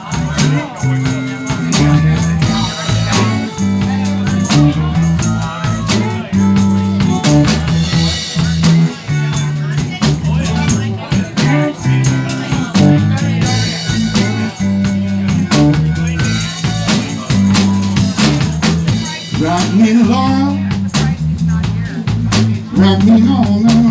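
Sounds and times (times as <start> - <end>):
bass guitar line: 0.0 - 23.9
drum kit snare and kick: 0.0 - 23.9
live band playing: 0.0 - 23.9.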